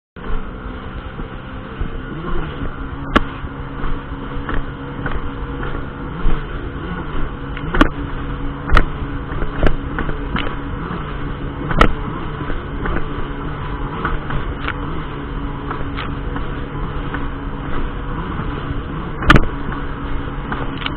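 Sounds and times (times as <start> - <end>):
jet ski engine running: 0.2 - 20.9.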